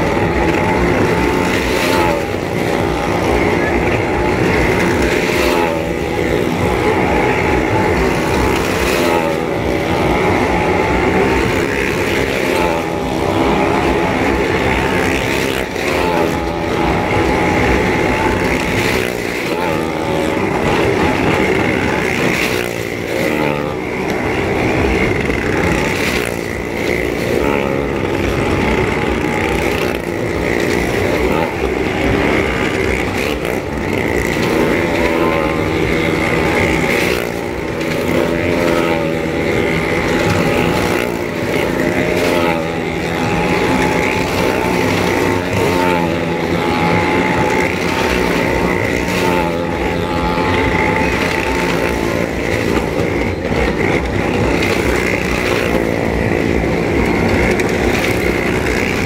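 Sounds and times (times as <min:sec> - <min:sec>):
vehicle engines revving: 0:00.0 - 0:59.0.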